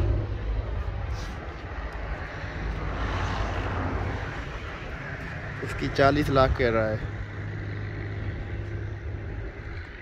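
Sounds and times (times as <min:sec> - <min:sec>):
outdoor rumble and hiss: 0:00.0 - 0:10.0.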